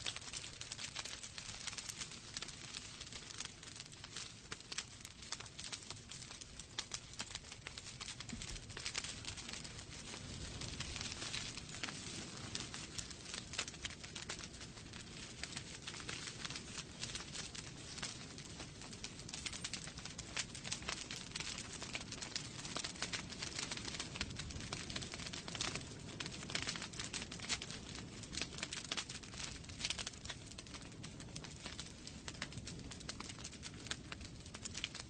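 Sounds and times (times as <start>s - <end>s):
logs crackling and popping: 0.0s - 35.0s.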